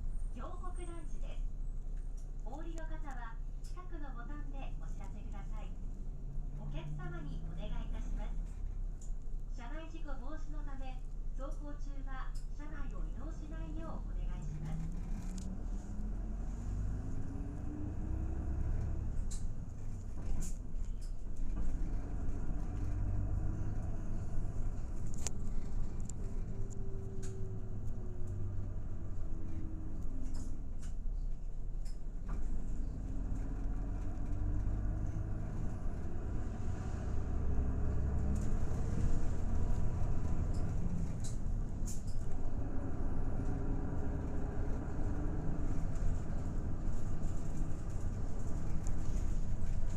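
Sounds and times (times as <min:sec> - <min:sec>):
low road rumble: 0:00.0 - 0:49.9
bus engine accelerating: 0:03.6 - 0:10.8, 0:11.6 - 0:49.9
interior rattles and clicks: 0:04.8 - 0:09.6, 0:12.2 - 0:49.9.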